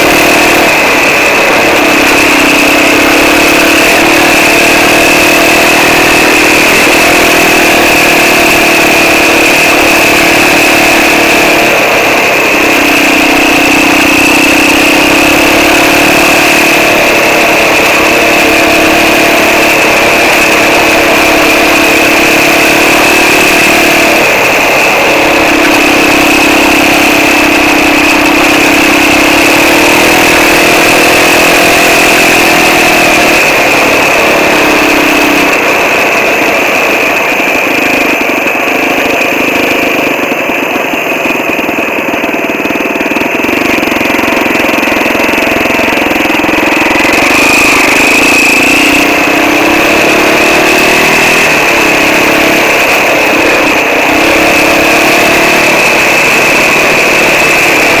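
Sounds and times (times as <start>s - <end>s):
quad bike engine running: 0.0s - 58.0s
steady high whine: 0.0s - 58.0s.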